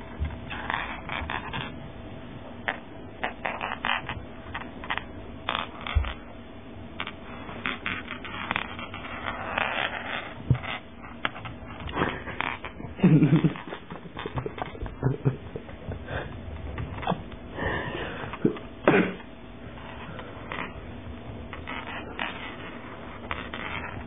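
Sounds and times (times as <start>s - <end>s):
cat scratching: 0.0s - 1.8s, 2.6s - 6.3s, 6.9s - 18.7s, 19.7s - 24.0s.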